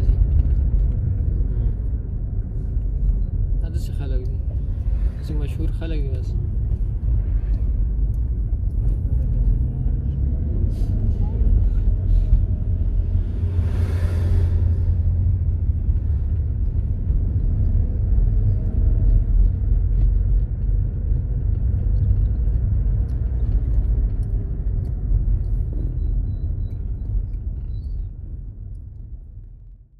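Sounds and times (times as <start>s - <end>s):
car engine and tyres rumbling: 0.0s - 29.9s.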